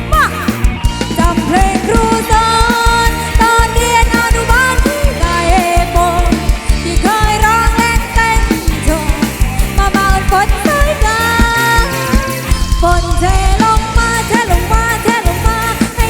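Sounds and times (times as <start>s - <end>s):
drum and bass beat: 0.0s - 16.0s
sliding lead melody: 0.0s - 16.0s.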